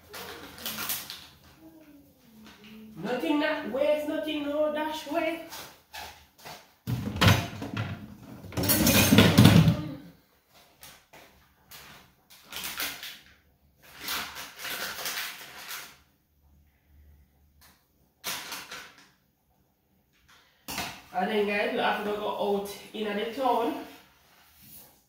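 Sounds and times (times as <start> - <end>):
knocks and rustling in kitchen: 0.0 - 16.2, 17.6 - 19.3, 20.1 - 25.0.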